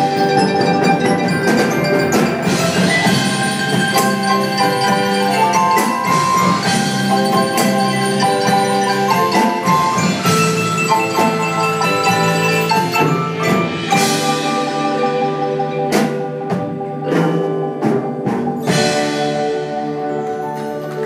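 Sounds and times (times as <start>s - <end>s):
mallet percussion ensemble: 0.0s - 21.0s.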